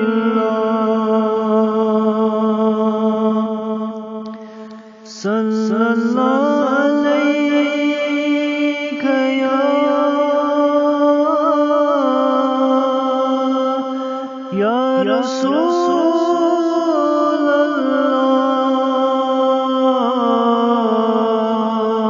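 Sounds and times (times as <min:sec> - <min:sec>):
man singing unaccompanied: 0:00.0 - 0:04.3, 0:05.0 - 0:22.0.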